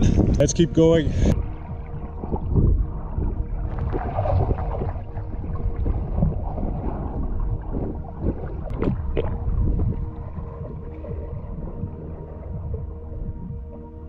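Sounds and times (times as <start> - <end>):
faint steady hum: 0.0 - 14.0
underwater moving water rumble: 0.0 - 14.0.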